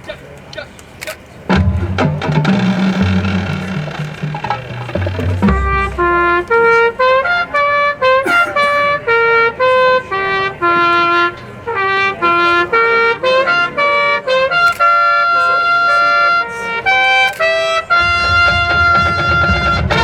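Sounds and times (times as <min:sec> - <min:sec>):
low brass chords: 0:01.5 - 0:20.0
trumpet melody: 0:01.5 - 0:20.0.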